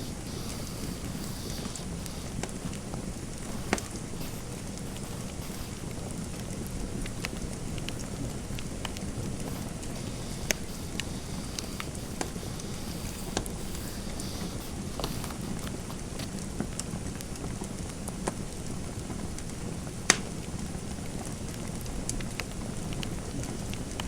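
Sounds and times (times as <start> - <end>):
fireplace fire crackling: 0.0 - 24.0.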